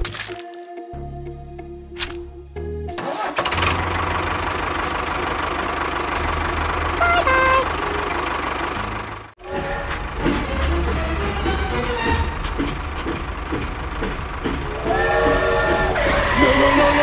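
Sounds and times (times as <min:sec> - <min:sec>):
tractor engine running: 0:02.9 - 0:17.0.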